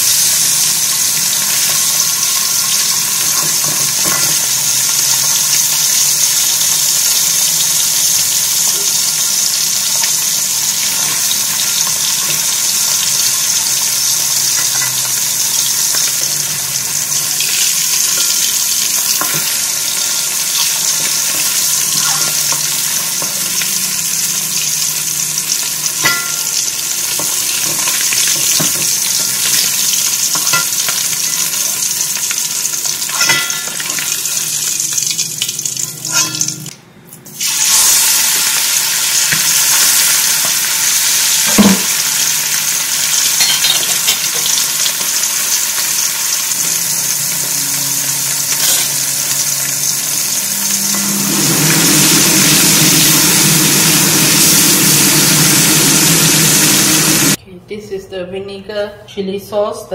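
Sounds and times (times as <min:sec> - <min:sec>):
fish sizzling in hot oil: 0:00.0 - 0:36.7, 0:37.4 - 0:57.4.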